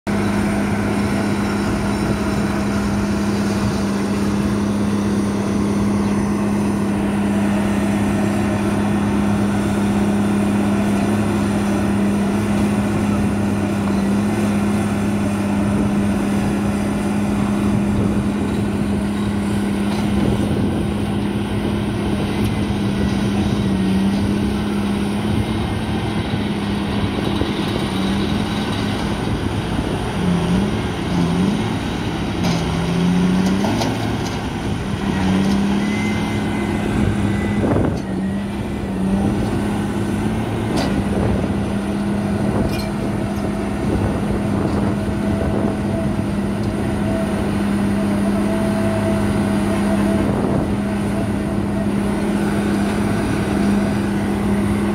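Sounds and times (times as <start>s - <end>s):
diesel engine of piling machinery: 0.0s - 54.9s.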